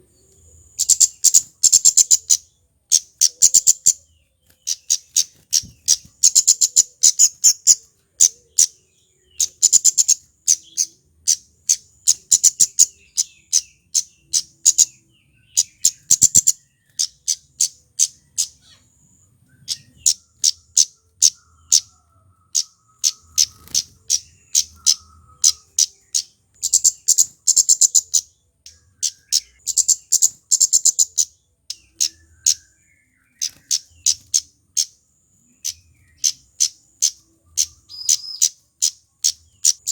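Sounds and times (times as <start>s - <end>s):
bird calling with high ticks: 0.2s - 35.0s, 35.6s - 39.9s.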